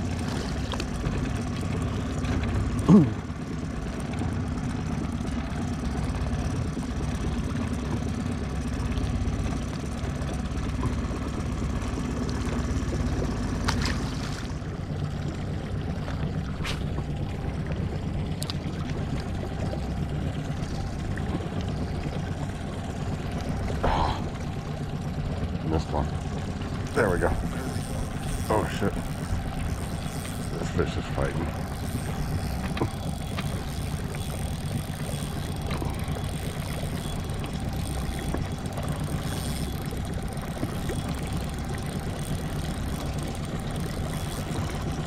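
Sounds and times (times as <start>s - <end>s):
boat motor humming: 0.0s - 45.0s.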